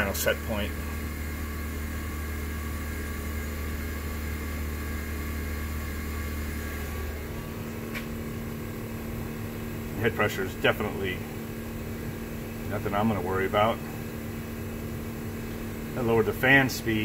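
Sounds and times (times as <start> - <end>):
water heater humming: 0.0 - 17.0.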